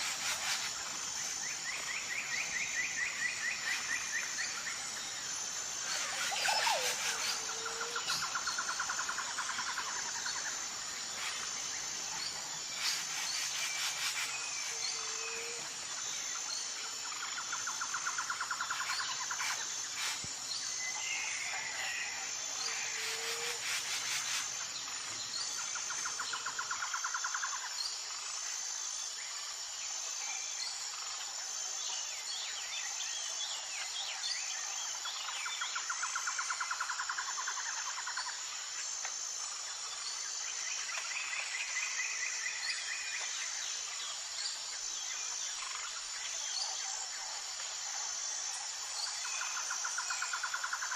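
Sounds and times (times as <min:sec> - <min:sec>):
high-pitched insect drone: 0:00.0 - 0:50.9.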